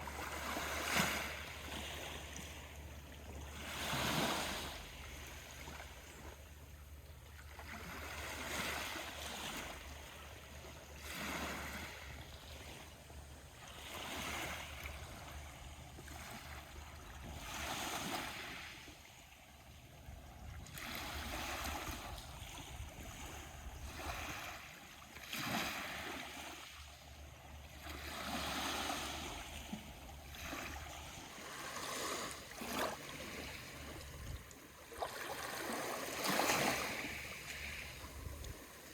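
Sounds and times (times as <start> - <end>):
small waves washing in: 0.0 - 6.4, 7.3 - 38.9.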